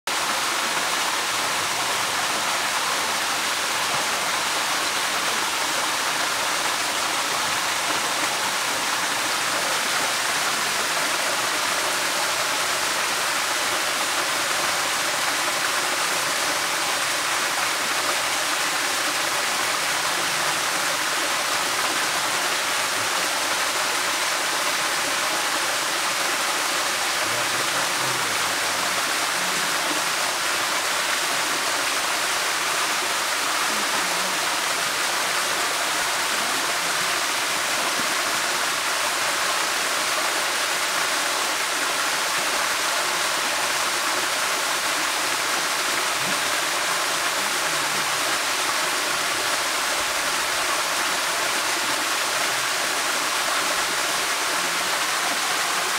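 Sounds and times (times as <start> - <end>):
waterfall splashing into pool: 0.1 - 55.9.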